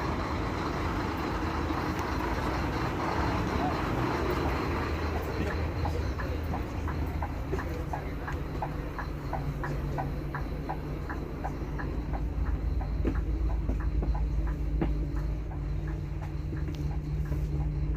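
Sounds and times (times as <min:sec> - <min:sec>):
bus engine droning: 0:00.0 - 0:17.9
light regular ticking: 0:00.6 - 0:17.9.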